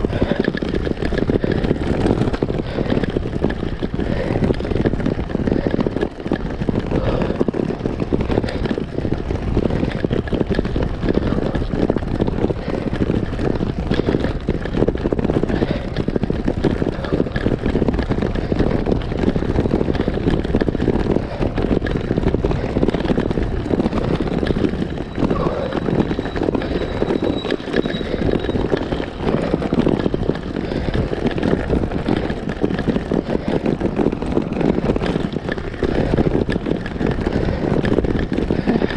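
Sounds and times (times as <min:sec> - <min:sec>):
bike rattling over cobblestones: 0:00.0 - 0:38.9.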